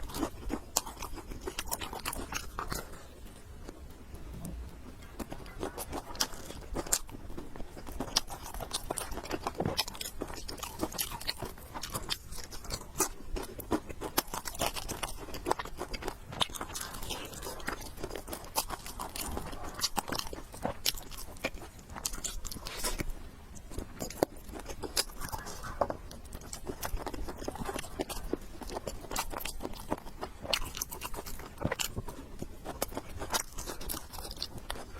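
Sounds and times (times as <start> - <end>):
person chewing crunchy food: 0.0 - 34.9.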